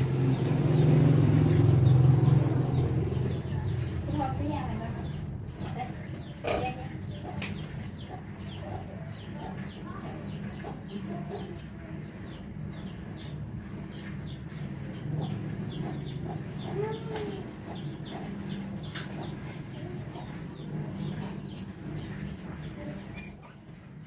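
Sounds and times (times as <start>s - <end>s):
chick peeping: 0.2s - 23.5s.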